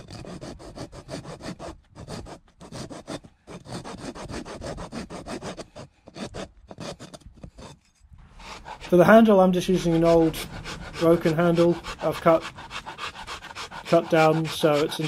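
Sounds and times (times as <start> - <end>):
rasp scraping wood: 0.0 - 15.0.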